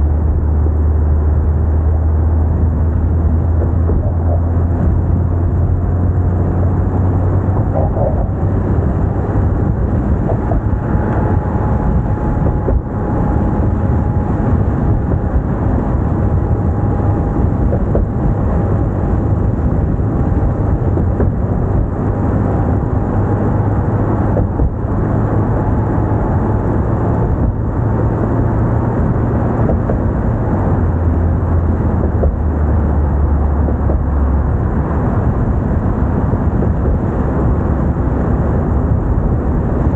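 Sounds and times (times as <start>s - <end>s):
car driving at speed: 0.0s - 39.9s.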